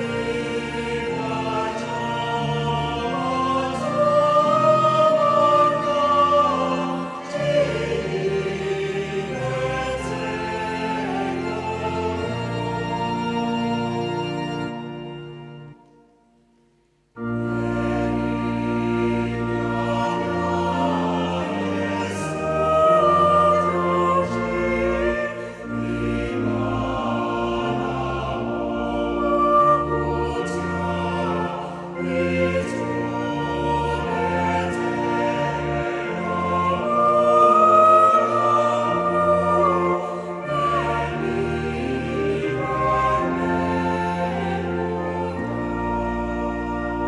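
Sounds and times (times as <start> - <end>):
mixed choir singing a hymn: 0.0 - 15.8, 17.2 - 47.0.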